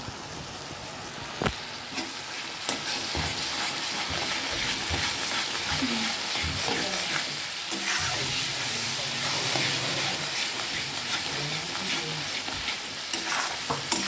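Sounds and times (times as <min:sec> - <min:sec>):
masala sizzling in oil: 0:00.0 - 0:14.0
metal spatula scraping a pan: 0:01.9 - 0:14.0.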